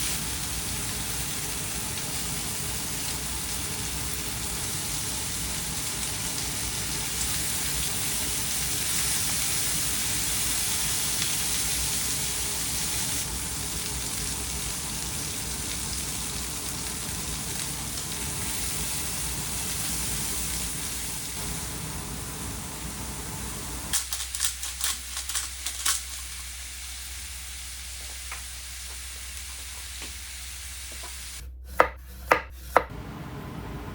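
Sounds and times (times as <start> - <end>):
food sizzling in a frying pan: 0.0 - 31.4.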